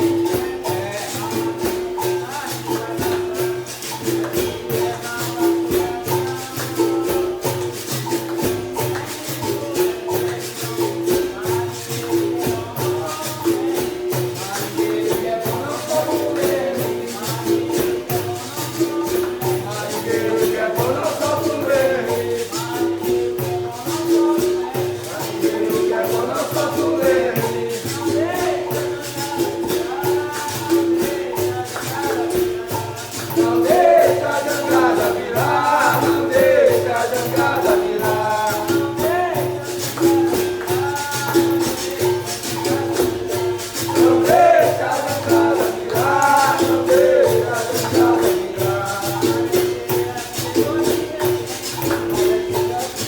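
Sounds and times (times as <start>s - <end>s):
jingling tambourine: 0.0s - 53.0s
voices singing: 0.0s - 53.0s.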